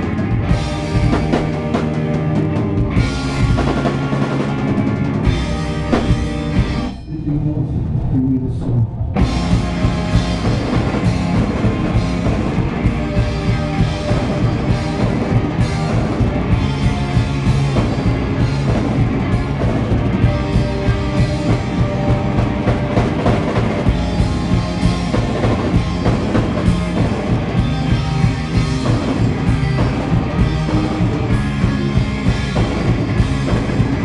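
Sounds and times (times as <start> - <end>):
live rock band playing: 0.0 - 7.9, 9.1 - 34.0.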